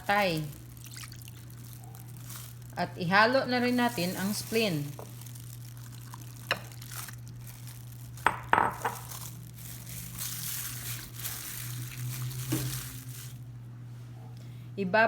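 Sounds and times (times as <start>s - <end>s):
soft wet rustling: 0.0s - 8.2s, 9.0s - 13.5s.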